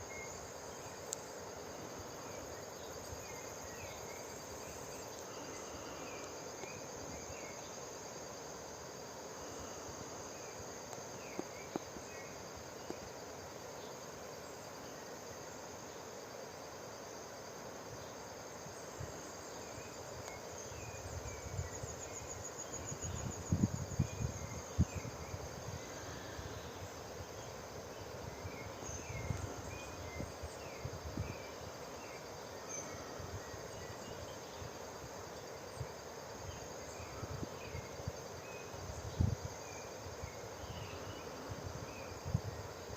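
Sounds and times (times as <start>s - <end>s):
high-pitched insect calls: 0.0s - 42.9s.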